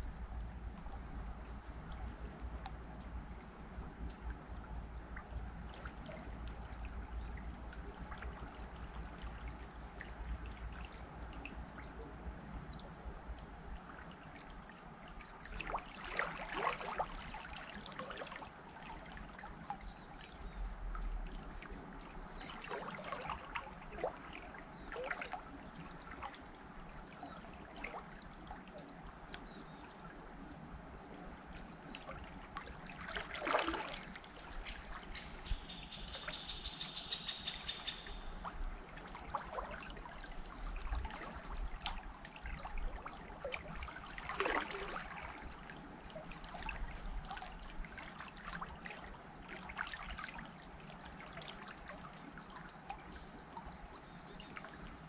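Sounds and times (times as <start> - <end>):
river water trickling: 0.0 - 55.0
water splashes: 0.0 - 55.0.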